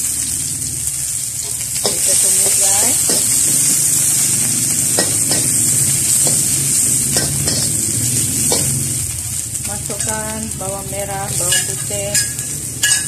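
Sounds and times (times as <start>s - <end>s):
food sizzling in oil: 0.0s - 13.0s
metal spatula scraping wok: 0.1s - 13.0s.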